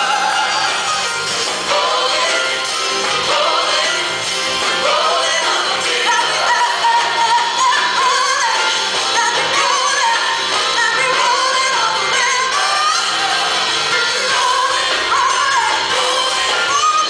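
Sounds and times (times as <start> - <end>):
drums: 0.0 - 17.0
people singing together: 0.0 - 17.0.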